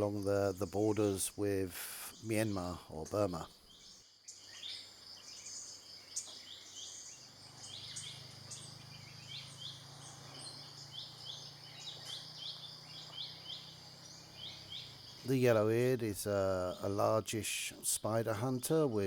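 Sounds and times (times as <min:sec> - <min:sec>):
high insect drone: 0:00.0 - 0:17.4.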